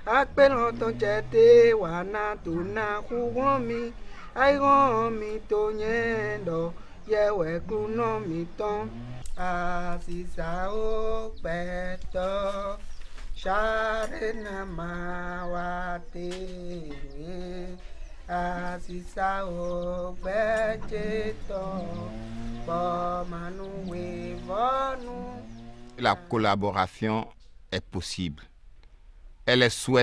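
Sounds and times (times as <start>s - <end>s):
person singing slow melody: 0.0s - 26.4s.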